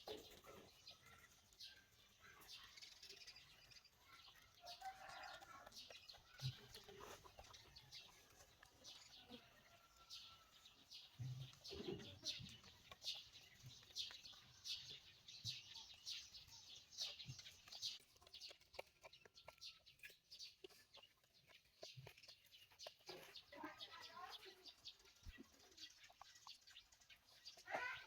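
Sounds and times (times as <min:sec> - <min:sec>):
chickens calling: 0:00.0 - 0:28.0.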